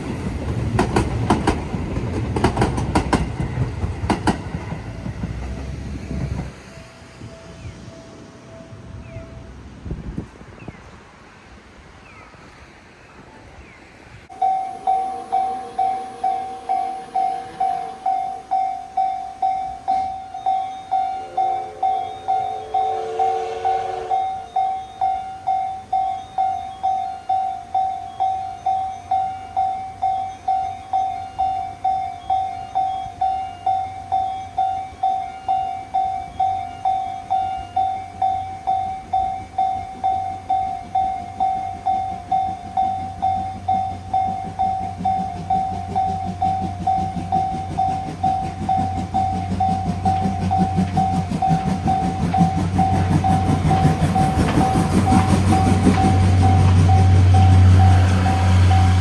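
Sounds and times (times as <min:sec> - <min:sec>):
train rumble: 0:00.0 - 0:59.0
level crossing warning bell: 0:04.7 - 0:09.7, 0:14.3 - 0:59.0.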